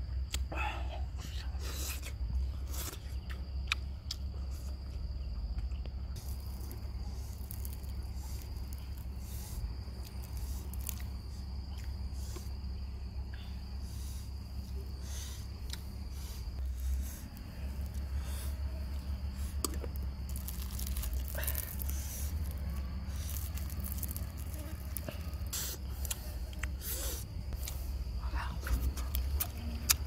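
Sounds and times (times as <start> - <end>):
insects trilling: 0.0 - 30.0
low steady rumble: 0.0 - 30.0.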